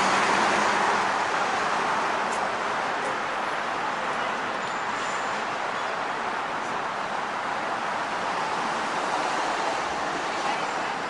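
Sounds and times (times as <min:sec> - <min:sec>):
city traffic roar: 0:00.0 - 0:11.0.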